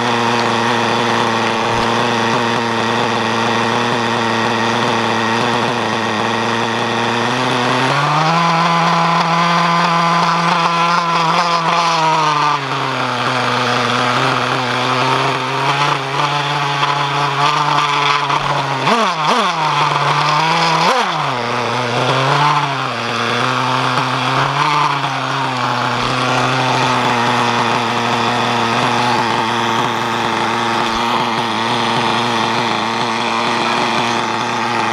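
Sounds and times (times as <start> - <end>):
model car engine revving: 0.0 - 34.9.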